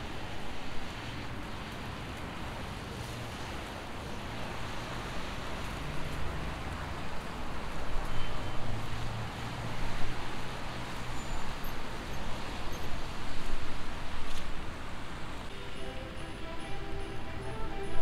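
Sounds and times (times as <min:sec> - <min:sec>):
cars passing on wet road: 0:00.0 - 0:18.0.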